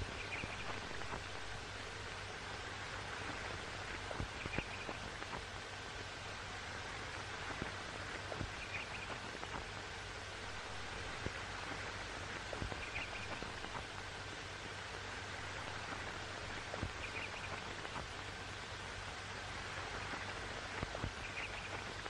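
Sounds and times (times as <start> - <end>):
film soundtrack hiss: 0.0 - 22.0.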